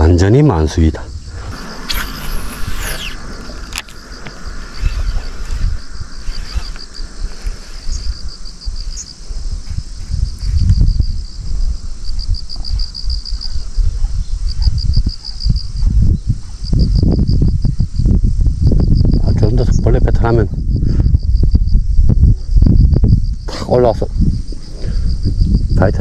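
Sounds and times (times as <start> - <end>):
insects trilling in pulses: 0.0 - 26.0
wind buffeting microphone: 0.0 - 26.0.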